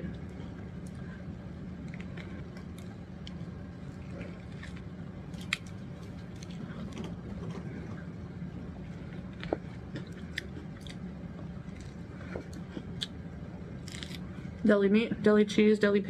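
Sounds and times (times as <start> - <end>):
person chewing a sandwich: 0.0 - 14.6
steady low hum: 0.0 - 16.0.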